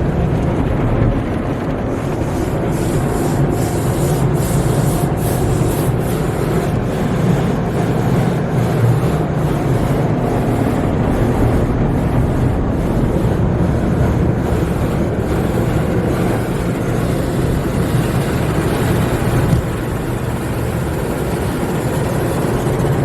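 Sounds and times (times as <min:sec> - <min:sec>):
water and machinery rush: 0:00.0 - 0:23.0.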